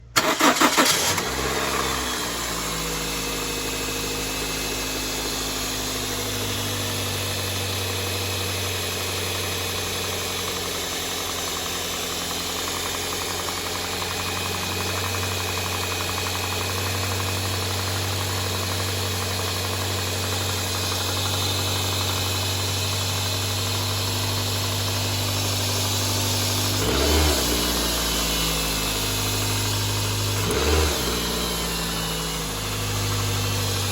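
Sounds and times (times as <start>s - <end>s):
car engine starting and idling: 0.0s - 33.9s.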